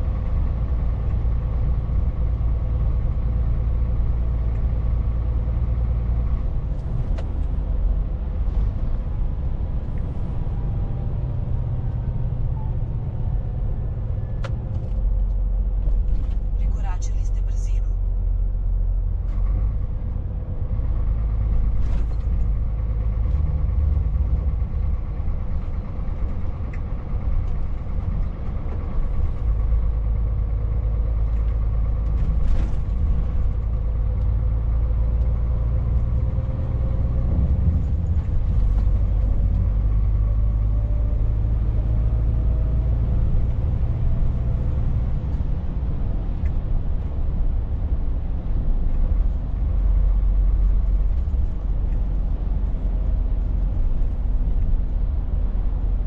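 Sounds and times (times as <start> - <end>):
truck diesel engine drone: 0.0 - 56.0
tyre and road noise: 0.0 - 56.0.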